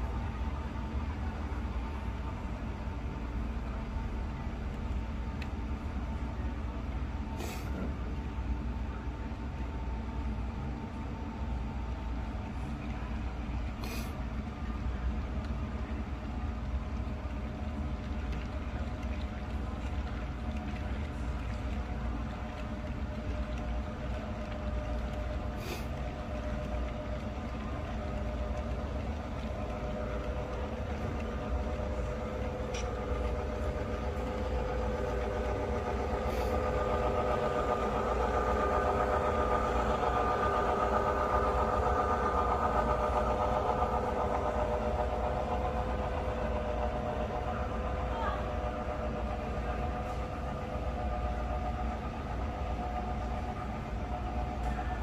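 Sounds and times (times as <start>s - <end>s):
engine-like drone: 0.0s - 55.0s
model train rolling hum: 0.0s - 55.0s.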